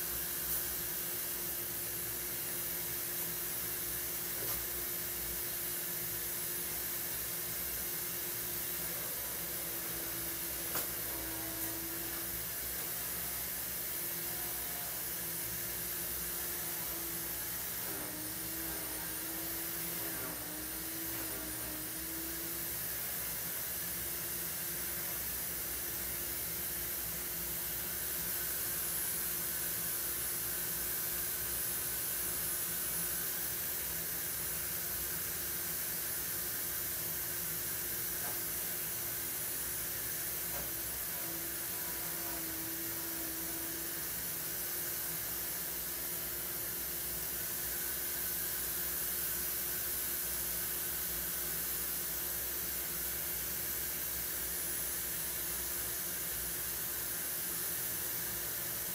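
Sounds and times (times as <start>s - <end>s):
room noise hiss: 0.0s - 58.9s.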